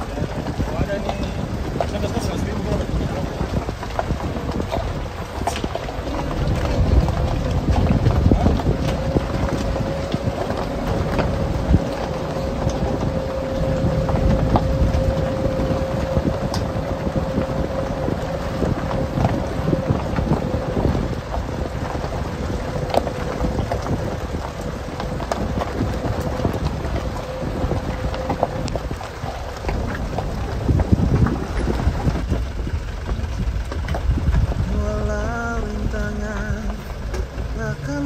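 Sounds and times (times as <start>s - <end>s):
vehicle rumbling: 0.0s - 38.0s
wind buffeting microphone: 0.0s - 38.0s.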